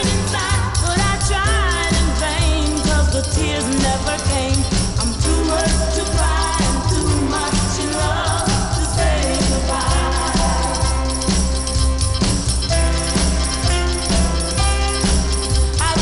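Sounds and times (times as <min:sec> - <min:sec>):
girl-group soul record: 0:00.0 - 0:16.0.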